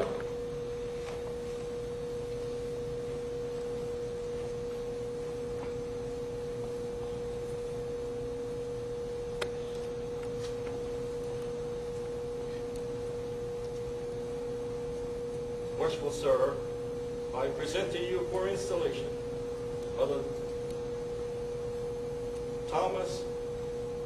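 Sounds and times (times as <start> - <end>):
steady pure tone: 0.0 - 24.0.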